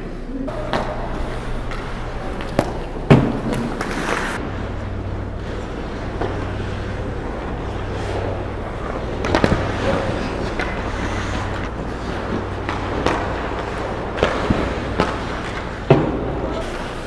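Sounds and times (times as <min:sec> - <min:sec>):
steady low hum: 0:00.0 - 0:17.0
hockey sticks and puck clacking: 0:00.5 - 0:04.4, 0:05.4 - 0:17.0
skate blades scraping ice: 0:00.7 - 0:04.4, 0:05.4 - 0:17.0.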